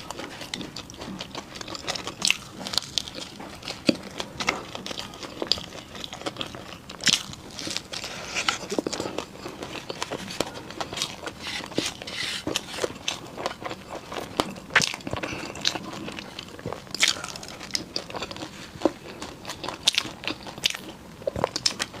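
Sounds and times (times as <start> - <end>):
crunchy pastry bites and chewing: 0.0 - 11.4, 12.6 - 22.0.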